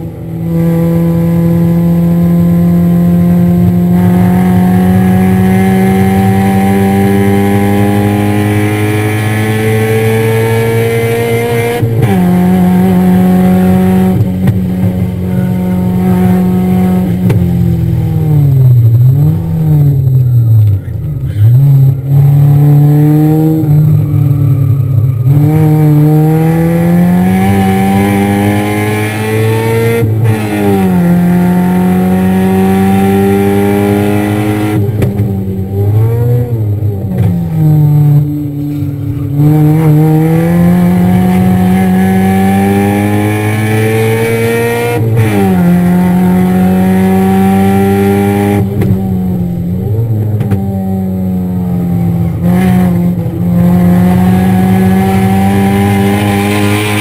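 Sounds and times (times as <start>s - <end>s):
car engine accelerating and shifting: 0.0s - 57.0s
engine rev blips on downshifts: 0.0s - 57.0s.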